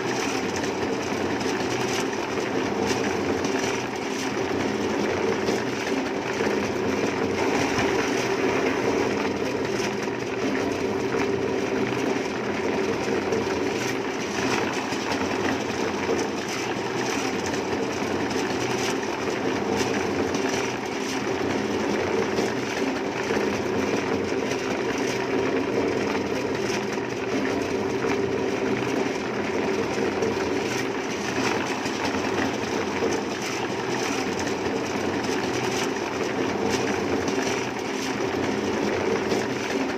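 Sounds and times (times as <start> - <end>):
machine droning steadily: 0.0 - 39.9.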